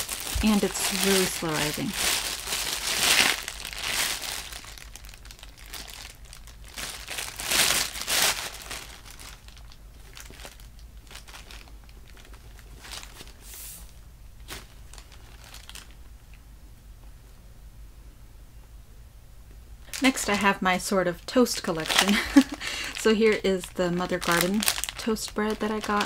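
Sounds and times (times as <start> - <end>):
plastic bag crinkling: 0.0 - 13.7, 14.4 - 16.1, 19.9 - 26.0.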